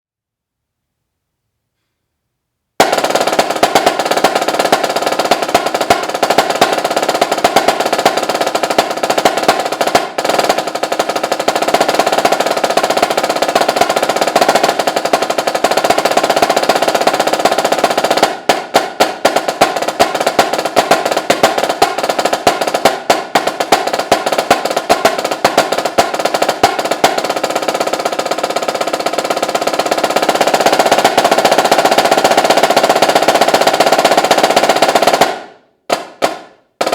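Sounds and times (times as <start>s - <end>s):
snare drum rolls: 2.8s - 36.9s.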